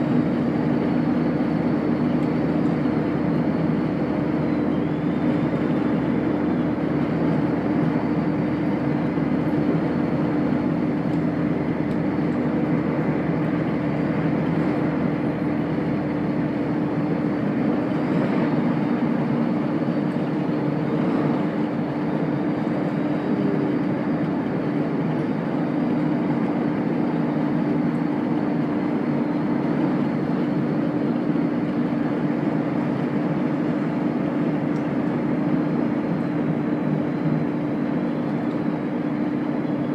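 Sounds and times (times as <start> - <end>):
steady train drone: 0.0 - 39.9
train wheels rumbling on rail: 0.0 - 39.9.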